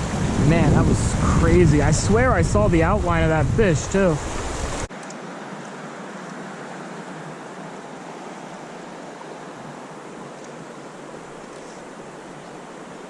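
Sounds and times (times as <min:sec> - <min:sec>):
creek flowing: 0:00.0 - 0:13.0
wind: 0:00.0 - 0:13.0.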